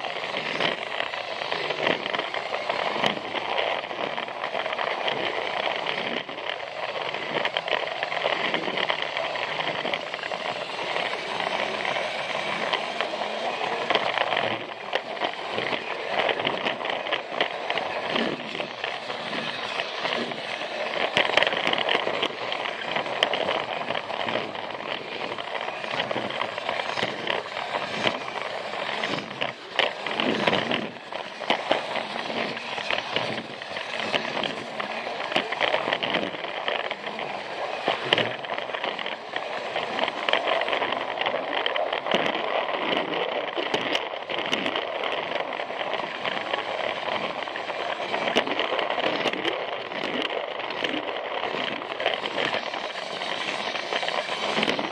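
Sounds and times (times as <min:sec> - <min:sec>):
toy train motor whirring: 0:00.0 - 0:54.9
wheels clicking over plastic track: 0:00.0 - 0:54.9.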